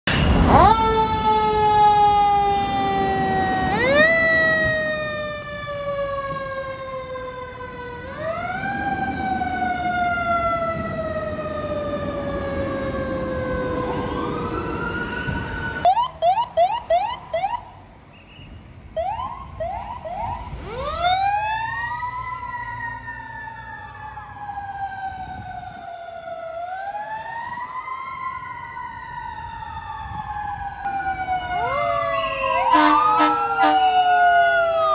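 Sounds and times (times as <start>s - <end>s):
short siren blasts: 0.1s - 17.7s, 19.0s - 34.9s
fire engine siren wailing: 0.1s - 17.9s, 18.8s - 34.9s.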